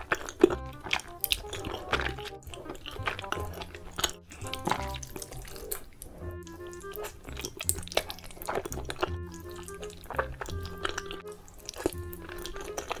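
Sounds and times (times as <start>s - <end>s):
light background music: 0.0s - 13.0s
wet slurping and chewing: 0.0s - 13.0s.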